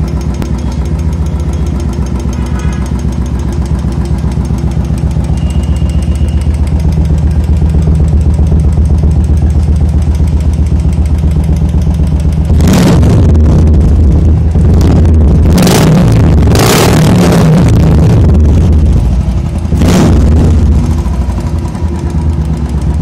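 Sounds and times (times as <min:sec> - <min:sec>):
motorcycle engine idling: 0:00.0 - 0:15.5, 0:17.7 - 0:23.0.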